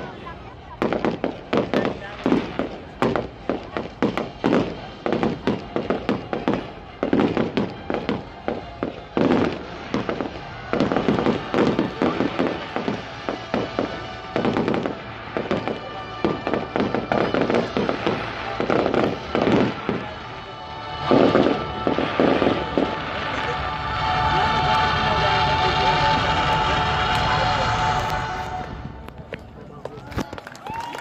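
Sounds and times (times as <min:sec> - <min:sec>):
music playing: 0:00.0 - 0:29.9
fireworks bangs and crackles: 0:00.0 - 0:31.0.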